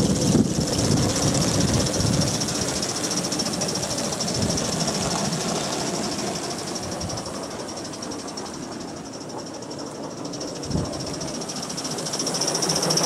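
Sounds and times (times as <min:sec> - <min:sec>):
steam exhaust hissing and beating: 0:00.0 - 0:13.0
wheels rumbling on rails: 0:00.0 - 0:13.0.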